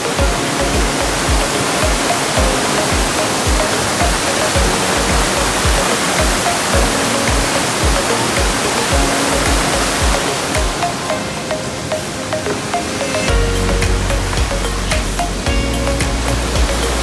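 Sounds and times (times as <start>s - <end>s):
music with low beat: 0.0s - 11.1s, 13.2s - 17.0s
waterfall rushing: 0.0s - 17.0s.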